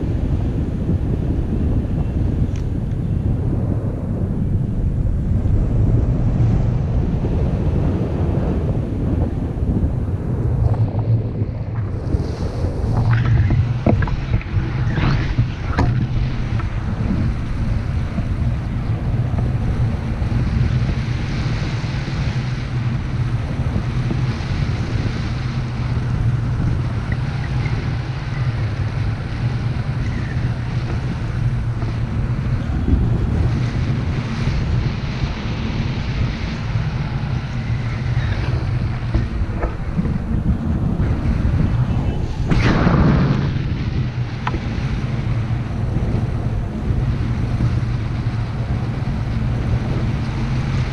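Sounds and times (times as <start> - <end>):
airflow rushing over microphone: 0.0 - 50.9.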